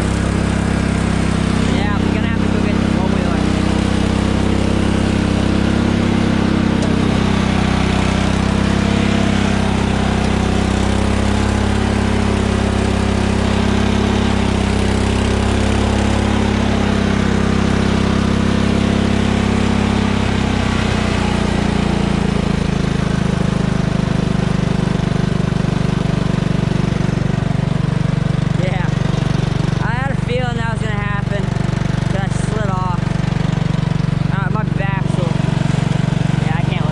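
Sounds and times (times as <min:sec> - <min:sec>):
lawn tractor engine running: 0:00.0 - 0:36.9.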